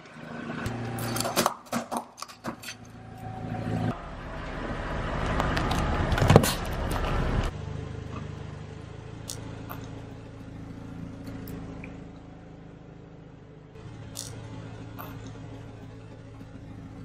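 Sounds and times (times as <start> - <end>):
car tyre rolling over concrete: 0.0 - 17.0
low hum: 2.6 - 17.0.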